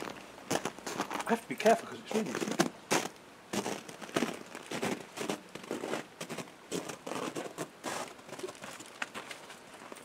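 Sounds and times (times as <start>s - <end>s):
footsteps crunching through snow: 0.0s - 1.4s, 2.1s - 10.0s.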